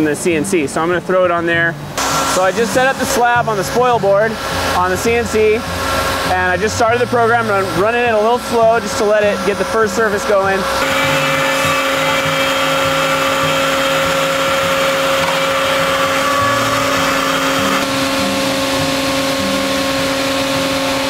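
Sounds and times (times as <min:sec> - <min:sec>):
cnc router whine: 0:02.0 - 0:21.0
wood cutting hiss: 0:02.0 - 0:21.0.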